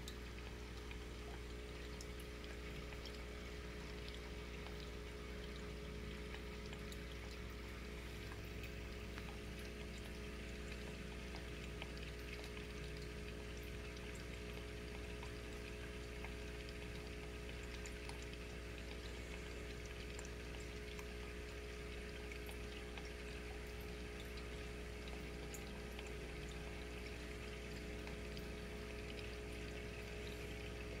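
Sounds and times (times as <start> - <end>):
aquarium water bubbling: 0.0 - 31.0
low pump hum: 0.0 - 31.0.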